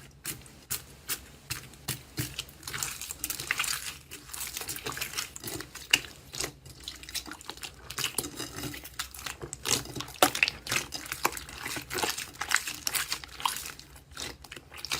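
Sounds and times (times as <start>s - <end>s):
slime squelching by hand: 0.0s - 14.9s.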